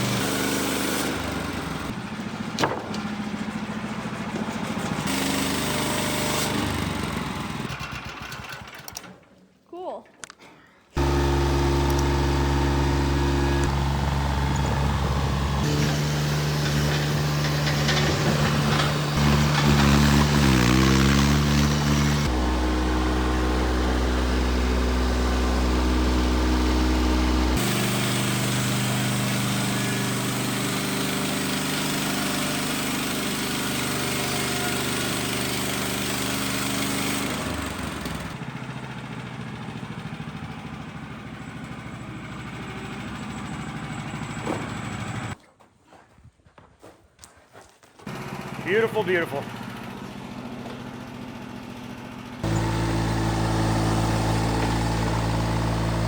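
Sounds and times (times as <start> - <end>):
small gasoline engine running: 0.0 - 9.1, 11.0 - 45.4, 48.1 - 56.0.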